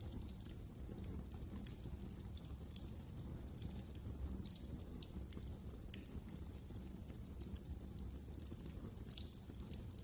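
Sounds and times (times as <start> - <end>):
low rumble of flames: 0.0 - 10.0
wood fire crackling: 0.0 - 10.0.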